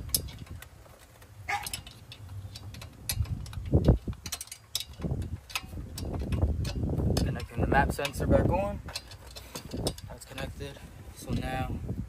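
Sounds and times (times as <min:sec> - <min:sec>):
light clicks and knocks of parts: 0:00.0 - 0:11.8.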